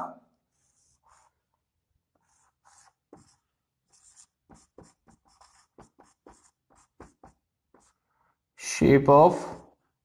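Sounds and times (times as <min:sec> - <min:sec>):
marker pen on whiteboard: 0:00.4 - 0:10.0.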